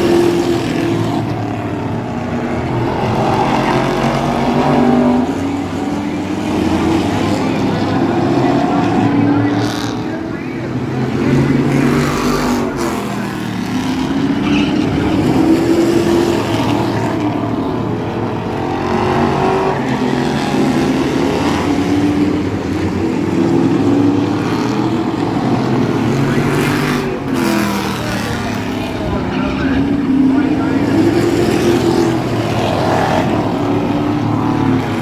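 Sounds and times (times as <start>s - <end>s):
racing truck engine accelerating: 0.0s - 35.0s.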